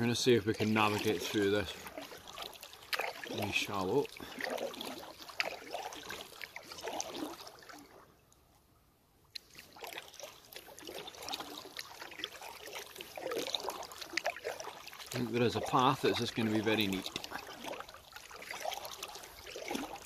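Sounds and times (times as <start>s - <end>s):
kayak paddle splashing: 0.0s - 8.2s, 9.3s - 20.0s.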